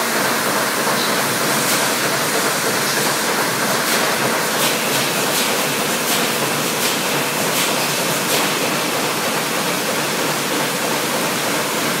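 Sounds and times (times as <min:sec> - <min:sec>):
factory machines rushing noise: 0:00.0 - 0:12.0.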